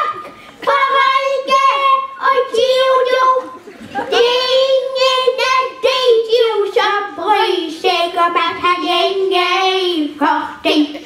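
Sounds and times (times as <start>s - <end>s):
child singing: 0.0s - 11.0s.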